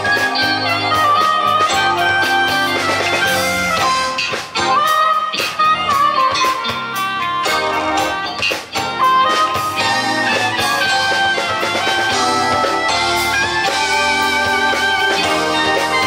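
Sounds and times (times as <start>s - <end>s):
live band playing: 0.0s - 16.0s
saxophone melody: 0.0s - 16.0s.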